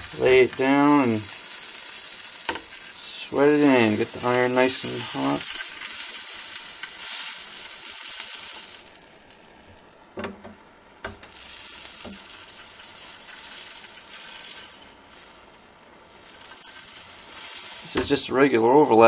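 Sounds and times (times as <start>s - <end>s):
solder sizzling under iron: 0.0s - 9.8s, 11.0s - 19.0s.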